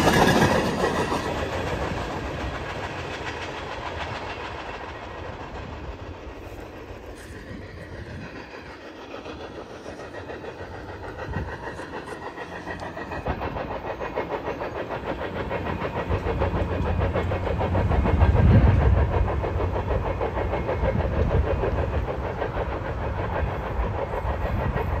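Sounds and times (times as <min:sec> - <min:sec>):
low train rumble: 0:00.0 - 0:25.0
train wheels clicking over rails: 0:00.0 - 0:25.0.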